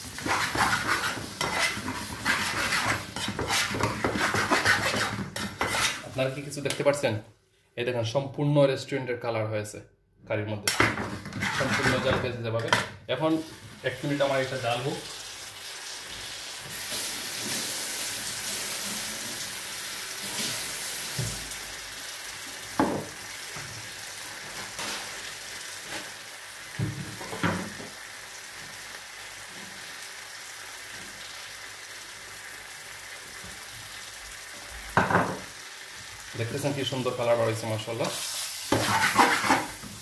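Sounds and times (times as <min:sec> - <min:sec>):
food sizzling in a frying pan: 0:00.0 - 0:06.5, 0:13.3 - 0:40.0.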